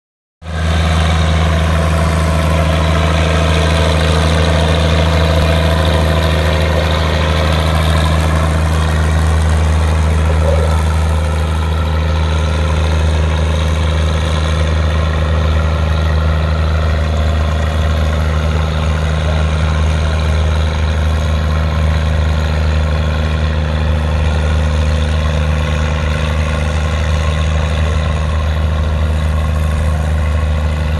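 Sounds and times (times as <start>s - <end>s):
tractor engine running under load: 0.4s - 30.9s.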